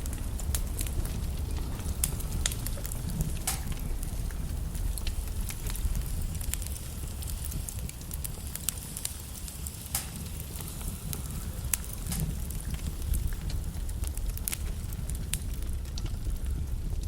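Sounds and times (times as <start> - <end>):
logs crackling and popping: 0.0 - 17.0
wood fire rumbling and hissing: 0.0 - 17.0.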